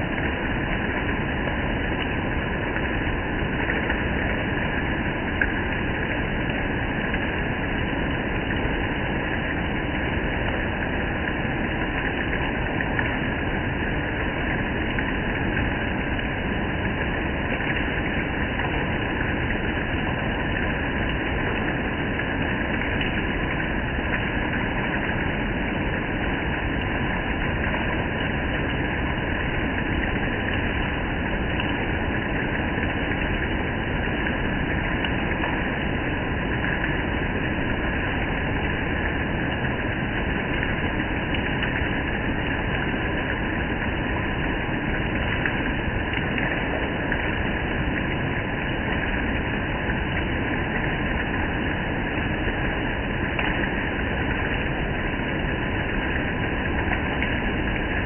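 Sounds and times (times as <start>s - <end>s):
rain on gravel and foliage: 0.0s - 58.0s.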